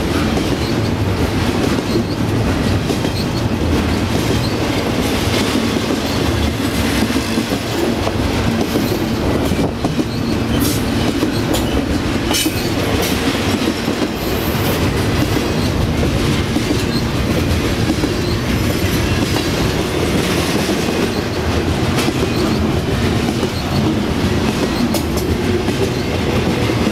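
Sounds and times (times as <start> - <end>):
running clatter of train cars: 0.0 - 26.9
train wheels rumbling on rails: 0.0 - 26.9.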